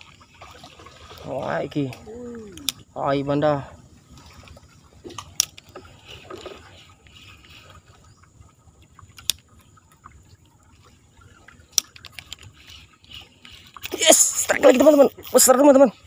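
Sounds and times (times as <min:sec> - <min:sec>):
water lapping around a boat: 0:00.0 - 0:16.0.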